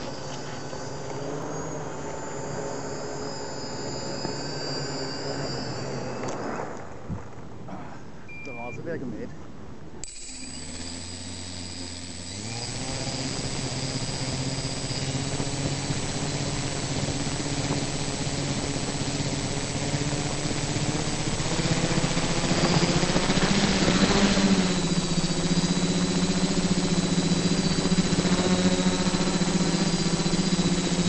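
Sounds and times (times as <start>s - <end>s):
model aircraft propeller hum: 0.0s - 7.6s, 9.8s - 31.0s.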